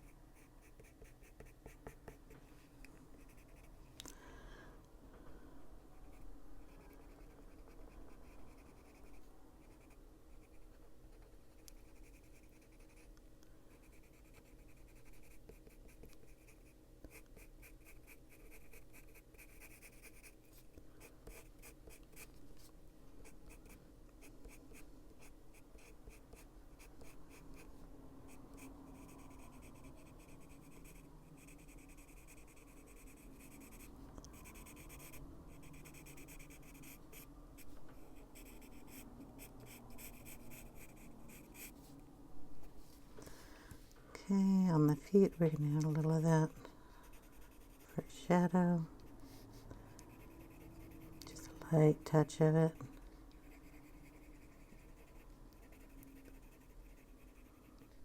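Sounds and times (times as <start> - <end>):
coloured pencil scratching on paper: 0.0 - 2.3, 3.2 - 3.7, 6.0 - 13.1, 13.8 - 22.4, 23.2 - 24.6, 25.2 - 27.7, 28.5 - 41.7, 44.4 - 49.4, 50.0 - 57.9.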